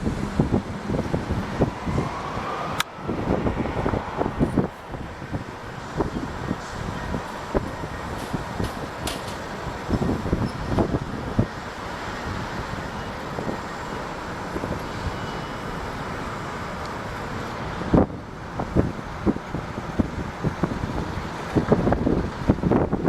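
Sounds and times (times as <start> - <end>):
wind on microphone: 0.0 - 15.9, 16.9 - 23.0
jet engines: 0.0 - 23.0.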